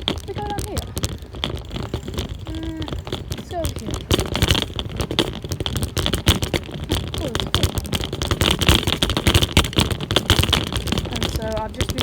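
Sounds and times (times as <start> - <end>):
bicycle rattling: 0.0 - 12.0.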